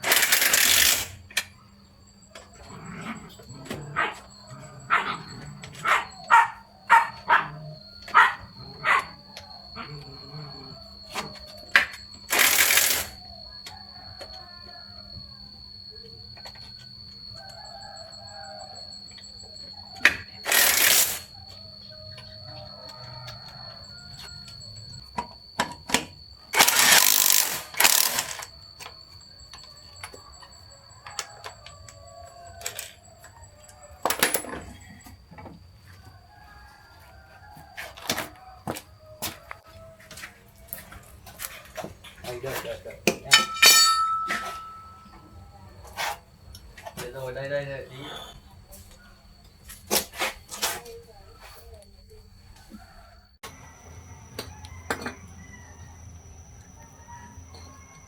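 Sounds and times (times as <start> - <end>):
rooster crowing: 0.0 - 25.6, 26.2 - 58.0.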